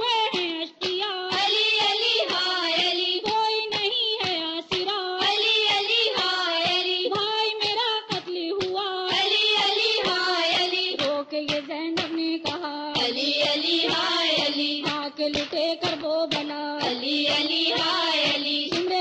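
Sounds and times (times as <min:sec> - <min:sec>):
woman chanting: 0:00.0 - 0:19.0
steady beat: 0:00.7 - 0:03.5, 0:04.7 - 0:19.0.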